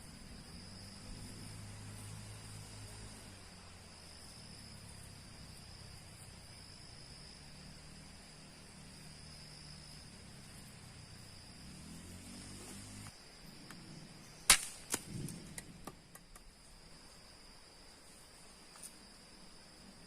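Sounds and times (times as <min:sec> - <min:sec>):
insect chorus buzzing: 0:00.0 - 0:20.0
soft hiss: 0:00.0 - 0:20.0.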